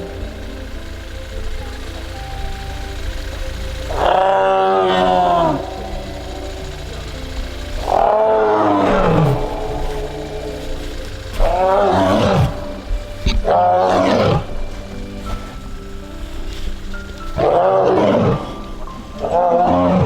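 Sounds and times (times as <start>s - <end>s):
tiger moaning call: 0.0s - 20.0s.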